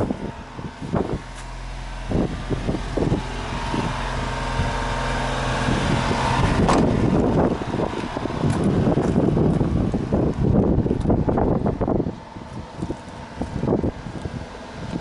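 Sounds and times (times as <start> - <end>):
truck engine idling: 0.0 - 15.0
wind buffeting microphone: 0.0 - 15.0.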